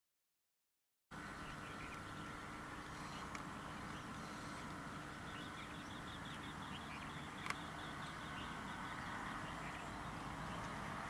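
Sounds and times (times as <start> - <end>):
small bird chirping: 1.2 - 11.0.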